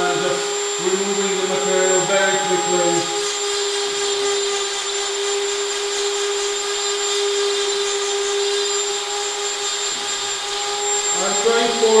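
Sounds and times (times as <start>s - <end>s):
rotary tool whining: 0.0s - 12.0s.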